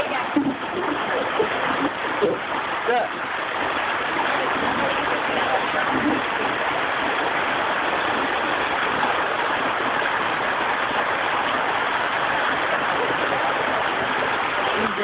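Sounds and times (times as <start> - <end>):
water rushing down a slide: 0.0 - 15.0
water splashing: 0.0 - 15.0.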